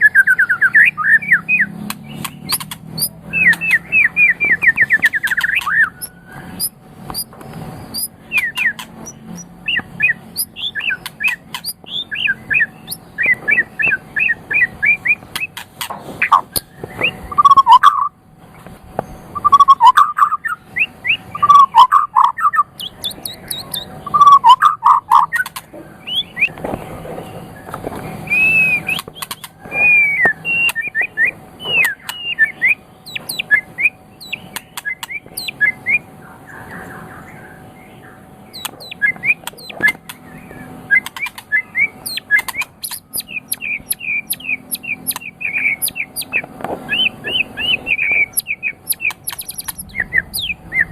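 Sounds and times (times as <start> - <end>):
bird singing varied song: 0.0 - 50.9.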